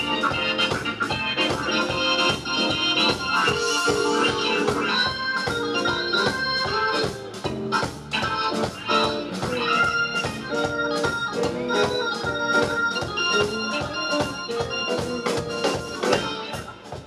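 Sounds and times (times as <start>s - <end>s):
electric blues band playing: 0.0s - 17.0s
organ chords: 0.0s - 17.0s.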